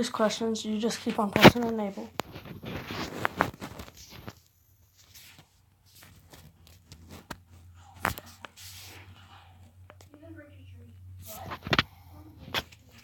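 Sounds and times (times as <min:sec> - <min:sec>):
faint rustling: 0:00.3 - 0:13.0.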